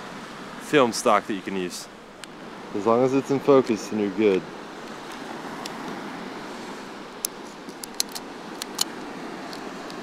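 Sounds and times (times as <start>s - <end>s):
surf hissing: 0.0s - 10.0s.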